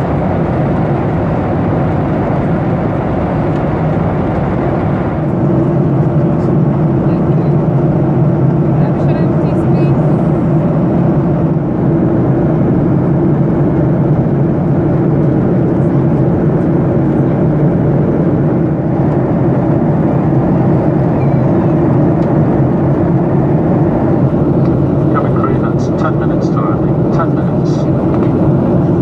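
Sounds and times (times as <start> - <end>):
jet engine and airflow noise: 0.0 - 29.0.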